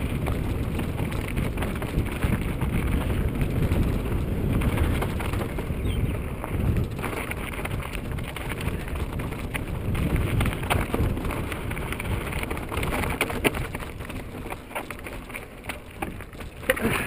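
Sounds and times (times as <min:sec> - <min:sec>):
bike rattling and knocking: 0:00.0 - 0:17.0
wind buffeting microphone: 0:00.0 - 0:17.0.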